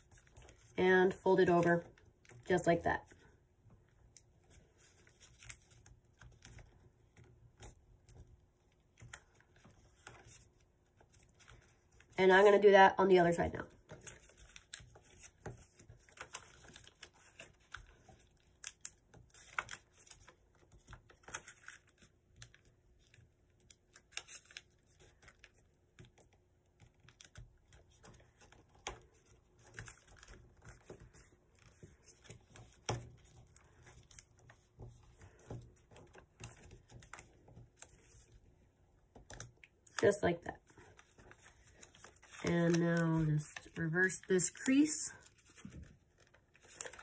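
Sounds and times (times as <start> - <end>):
paper crinkling being folded: 0.0 - 3.3, 4.0 - 12.6, 13.7 - 47.0.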